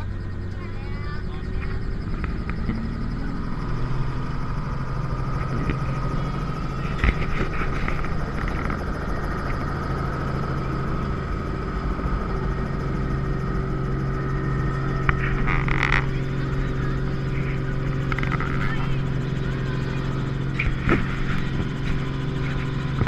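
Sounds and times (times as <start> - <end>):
helicopter drone and whine: 0.0 - 23.0.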